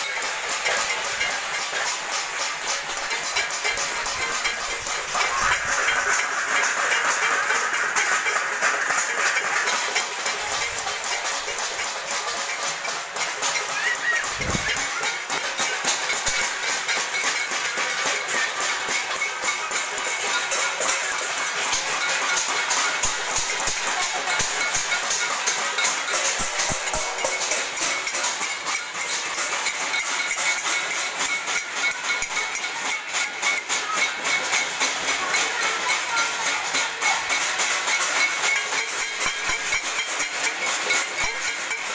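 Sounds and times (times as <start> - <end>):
metal plates and utensils clanging: 0.0 - 41.9
people clapping: 0.0 - 41.9.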